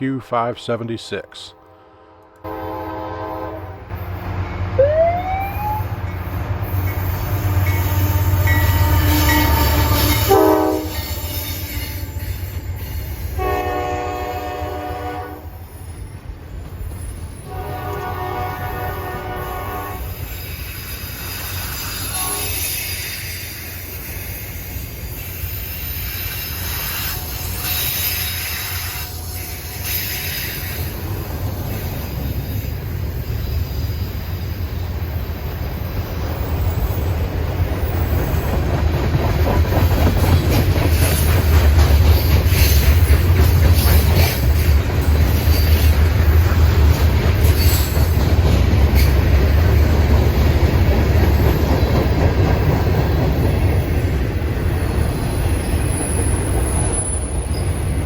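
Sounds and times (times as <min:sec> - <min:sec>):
freight train rumbling on rails: 0:00.2 - 0:58.0.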